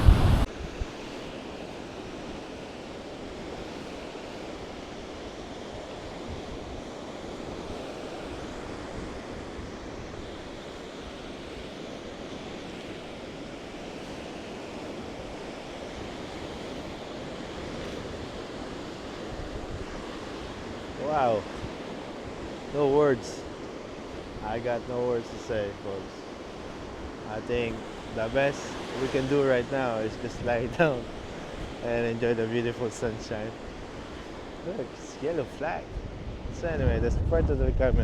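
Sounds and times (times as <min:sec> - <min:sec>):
waves breaking on beach: 0:00.0 - 0:38.0.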